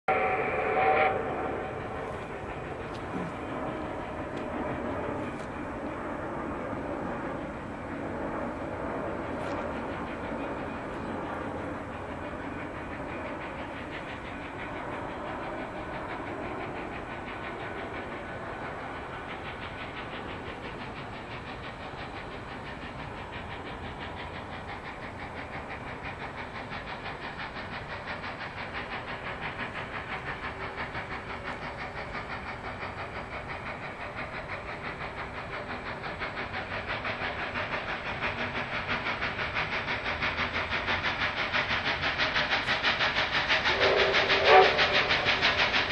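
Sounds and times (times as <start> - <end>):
locomotive rumble and hiss: 0.1 - 45.9
steam locomotive exhaust chuffs: 0.1 - 45.9.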